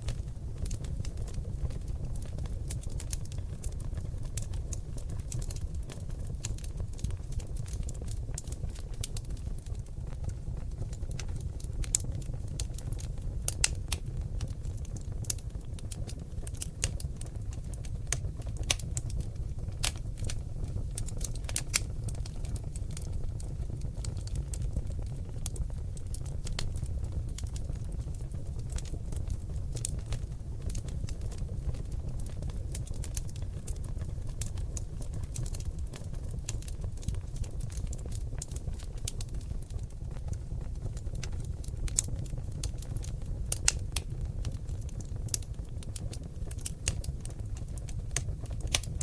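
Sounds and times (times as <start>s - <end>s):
logs crackling in fireplace: 0.0s - 49.0s
low rumble of flames: 0.0s - 49.0s.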